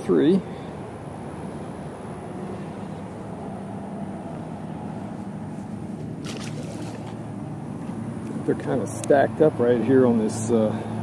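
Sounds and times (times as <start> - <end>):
low urban hum: 0.0 - 11.0.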